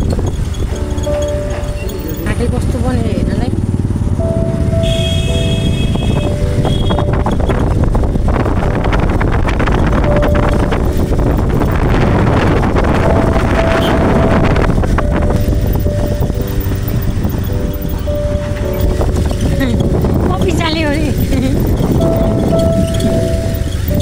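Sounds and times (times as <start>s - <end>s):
moving vehicle running noise: 0.0s - 24.0s
wind buffeting microphone: 0.0s - 24.0s.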